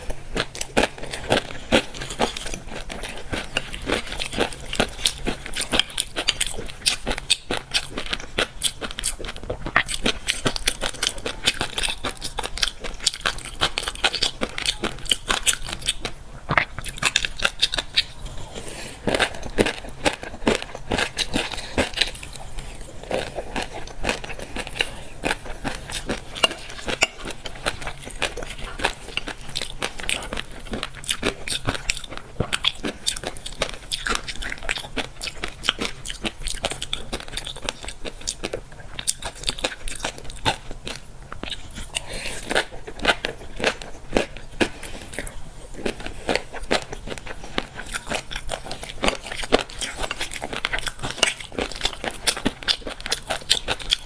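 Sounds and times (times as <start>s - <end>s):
chewing fish roe: 0.0s - 54.0s.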